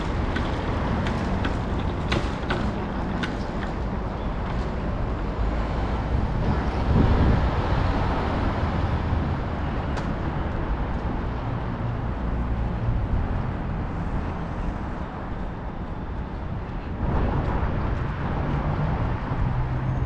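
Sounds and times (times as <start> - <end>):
low rumble of passing vehicles: 0.0 - 20.0.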